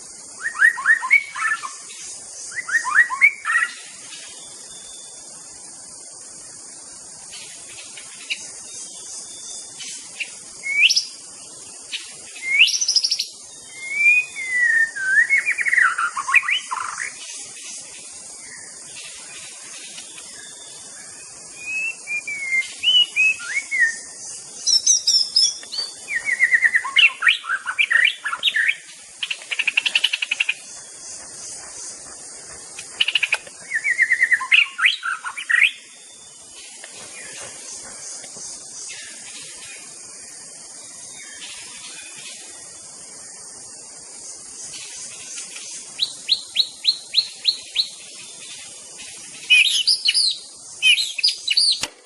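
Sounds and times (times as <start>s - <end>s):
bird singing whistled trills: 0.0s - 5.5s, 7.3s - 32.1s, 32.9s - 37.8s, 44.4s - 51.9s
faint high hiss: 0.0s - 52.0s.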